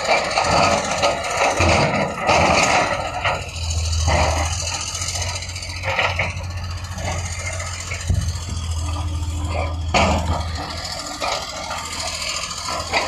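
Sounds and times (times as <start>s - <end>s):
construction machine engine humming: 0.0s - 13.0s
scraping and clanking: 0.0s - 13.0s.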